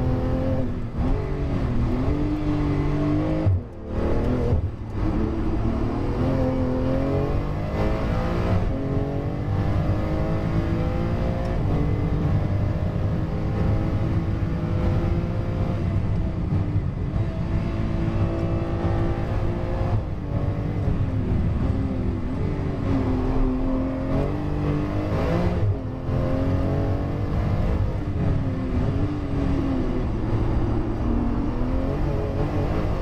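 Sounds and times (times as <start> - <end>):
gear downshift: 0.0 - 33.0
race car engine at speed: 0.0 - 33.0.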